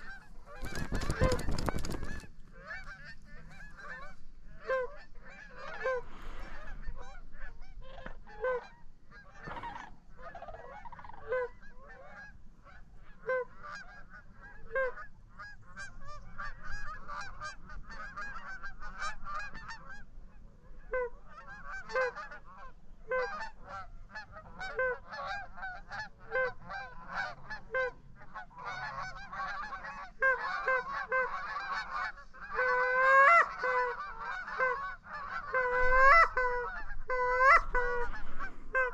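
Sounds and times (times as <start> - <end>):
geese honking: 0.0 - 20.1, 20.8 - 38.9.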